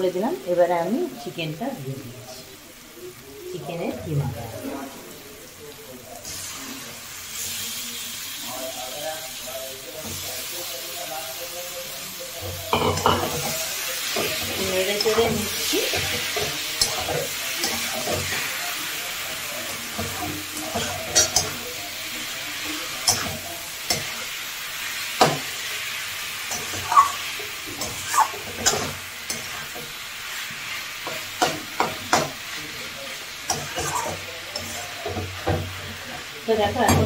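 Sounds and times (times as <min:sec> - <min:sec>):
meat sizzling in oil: 0:00.0 - 0:37.0.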